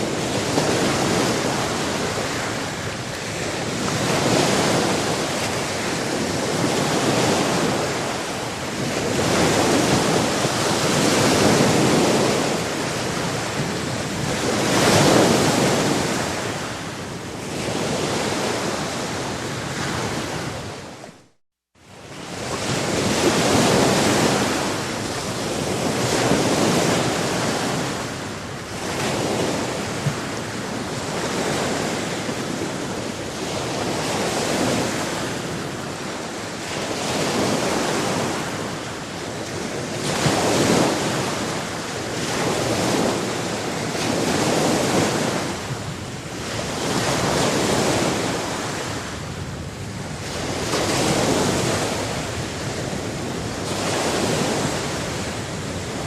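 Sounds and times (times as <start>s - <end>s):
waves breaking and washing ashore: 0.0s - 56.0s.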